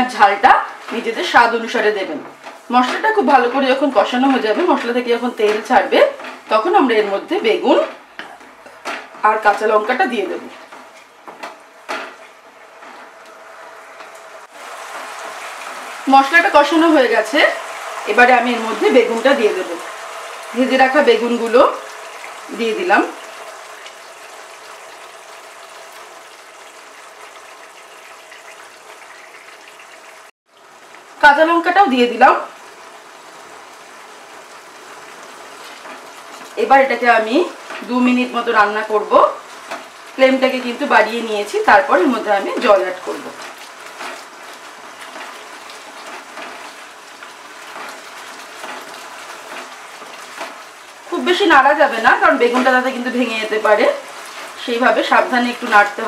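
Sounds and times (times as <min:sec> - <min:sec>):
sauce sizzling in a pan: 0:00.0 - 0:56.0.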